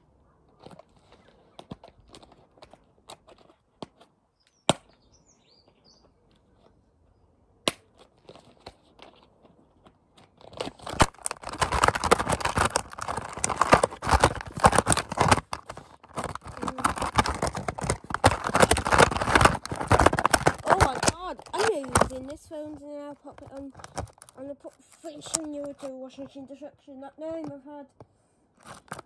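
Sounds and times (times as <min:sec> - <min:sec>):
plastic tub crackling and rattling: 0:00.6 - 0:04.1, 0:07.9 - 0:27.8, 0:28.6 - 0:29.0.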